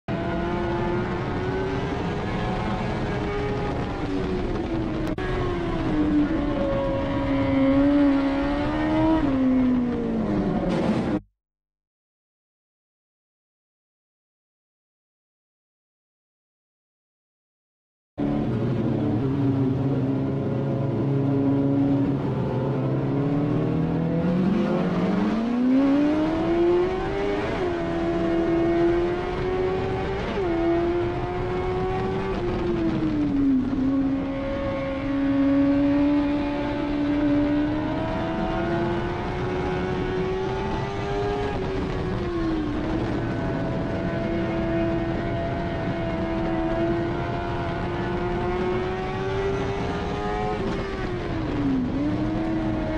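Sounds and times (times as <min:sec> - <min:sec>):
race car engine revving: 0:00.1 - 0:11.2, 0:18.2 - 0:52.9.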